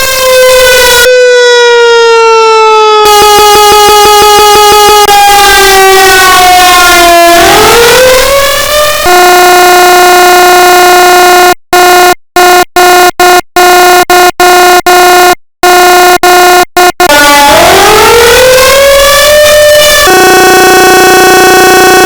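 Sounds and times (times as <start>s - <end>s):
siren wailing: 0.0s - 15.0s, 15.6s - 22.0s
horn-like siren blasts: 0.0s - 22.0s.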